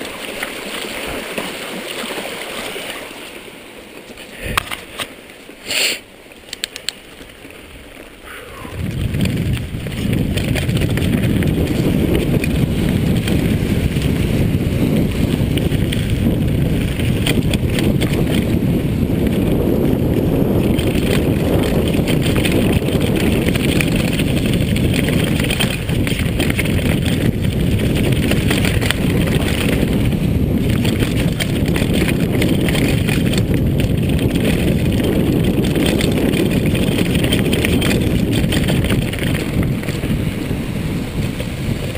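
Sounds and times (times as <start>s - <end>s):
bike rattling over dirt: 0.0s - 41.9s
wind rushing over microphone: 7.6s - 41.9s.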